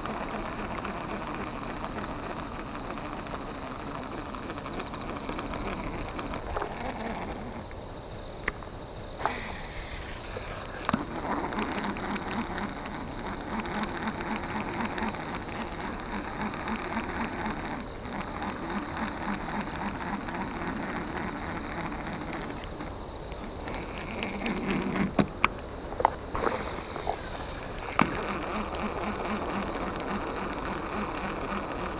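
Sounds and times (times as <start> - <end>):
fishing reel gears whirring: 0.0 - 7.6, 9.2 - 25.2, 26.3 - 31.9.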